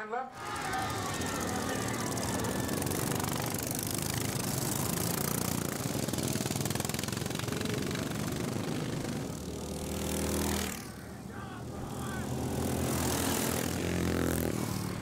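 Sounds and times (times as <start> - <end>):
lawn mower engines racing past: 0.3 - 15.0.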